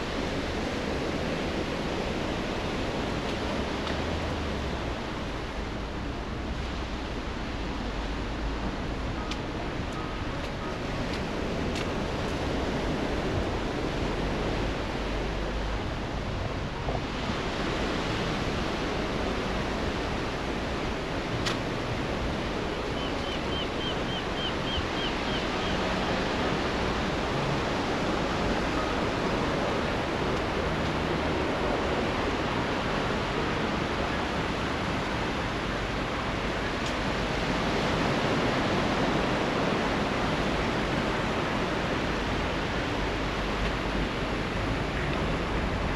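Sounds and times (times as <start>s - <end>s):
sea surf washing on shore: 0.0s - 45.9s.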